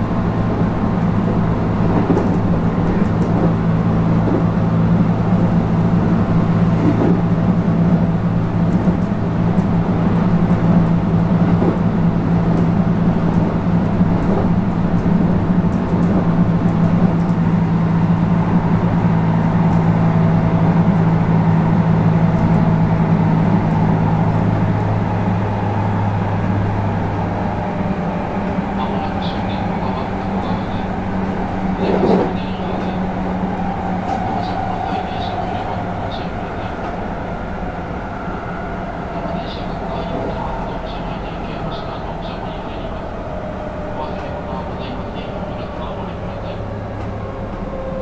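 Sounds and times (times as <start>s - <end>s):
traction motor hum: 0.0s - 48.0s
wheel and rail noise: 0.0s - 48.0s.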